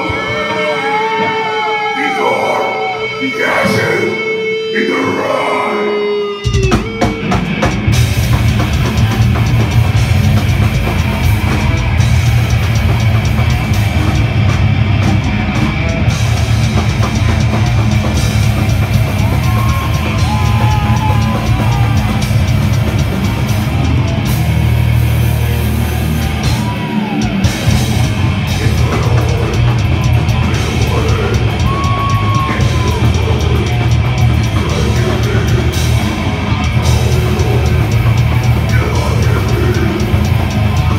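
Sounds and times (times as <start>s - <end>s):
live metal band playing: 0.0s - 40.9s
heavy bass drum: 6.5s - 40.9s.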